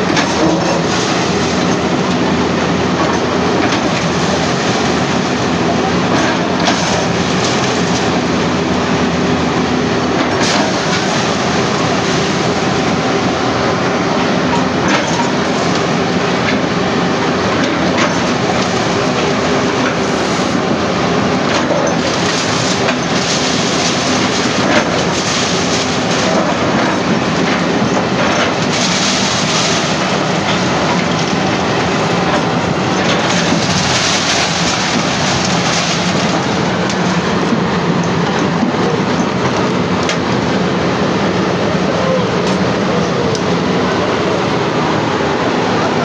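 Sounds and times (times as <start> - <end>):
heavy machinery rumbling and rattling: 0.0 - 46.0.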